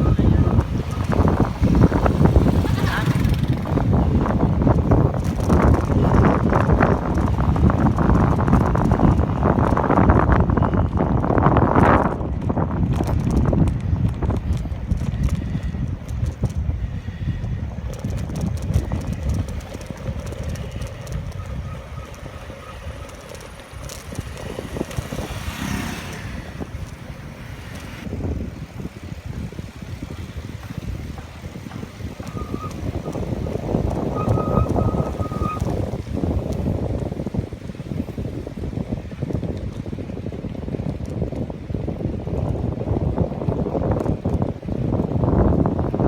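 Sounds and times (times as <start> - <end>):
road rumble: 0.0 - 46.0
wind on microphone: 0.0 - 46.0.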